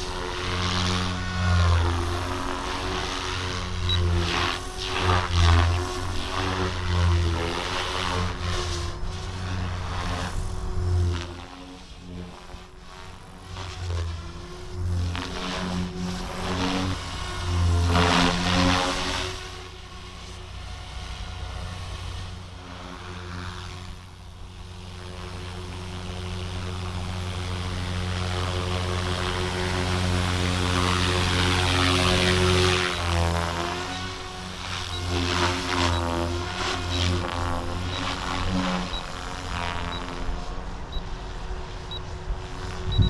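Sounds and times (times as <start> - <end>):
rc helicopter rotors whirring: 0.0 - 43.0.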